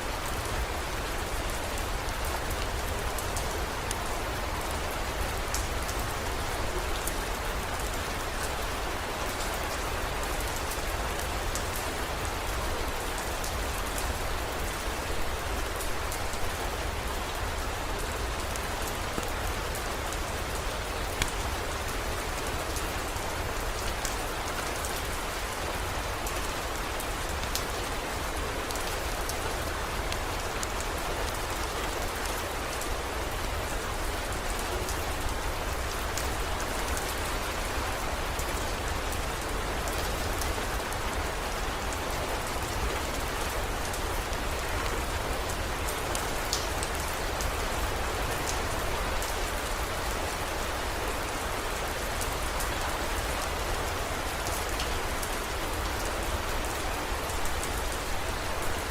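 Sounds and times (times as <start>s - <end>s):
heavy rain falling: 0.0s - 58.9s
rain drops ticking: 0.1s - 58.9s.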